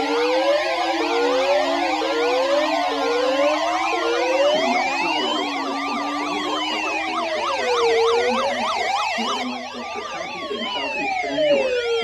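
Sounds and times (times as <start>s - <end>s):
siren wailing: 0.0s - 12.0s
siren yelping: 0.0s - 12.0s.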